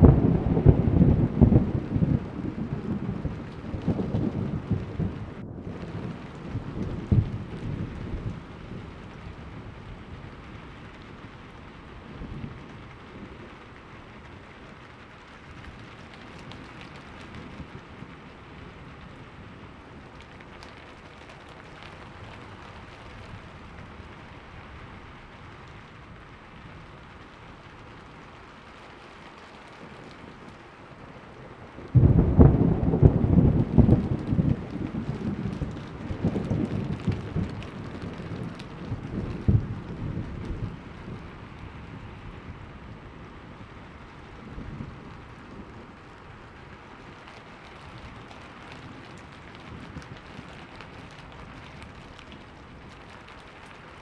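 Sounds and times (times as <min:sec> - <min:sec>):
rain falling: 0:00.0 - 0:54.0
thunder rumbling: 0:00.0 - 0:54.0.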